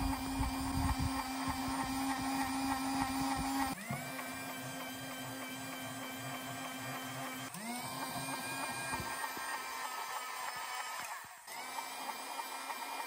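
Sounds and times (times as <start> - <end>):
bubble machine motor whirring: 0.0 - 13.0.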